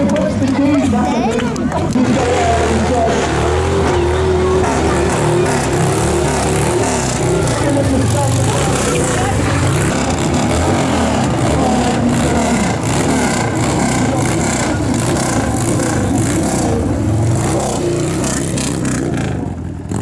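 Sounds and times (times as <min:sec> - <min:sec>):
motor vehicle engine: 0:00.0 - 0:20.0.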